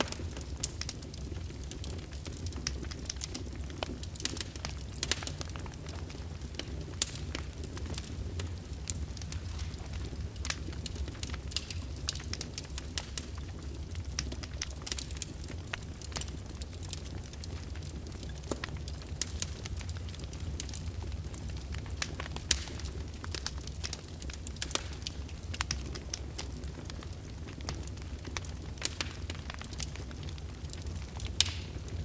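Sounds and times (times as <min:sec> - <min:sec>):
fire crackling and popping: 0:00.0 - 0:32.0
low rumble of fire: 0:00.0 - 0:32.0.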